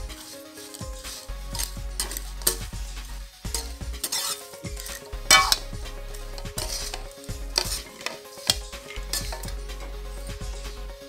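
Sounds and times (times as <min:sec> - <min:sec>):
ladle scraping metal pan: 0:00.2 - 0:02.7, 0:03.5 - 0:10.4.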